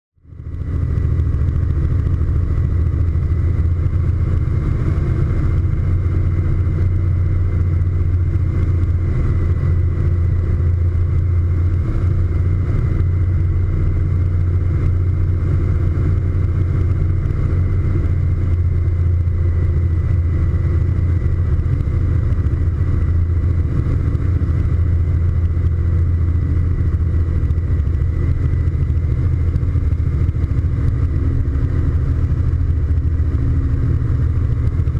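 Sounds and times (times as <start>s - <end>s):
airplane engine drone: 0.2s - 34.9s
high propeller whine: 0.2s - 34.9s.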